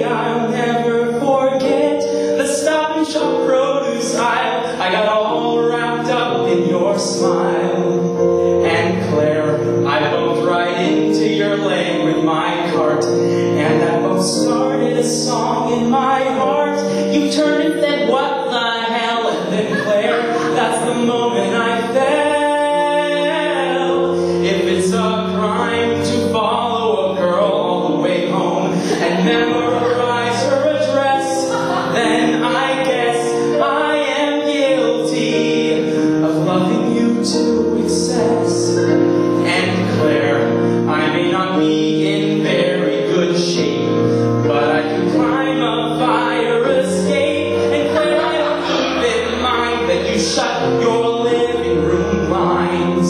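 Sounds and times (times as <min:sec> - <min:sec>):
man singing: 0:00.0 - 0:53.0
musical theatre accompaniment: 0:00.0 - 0:53.0.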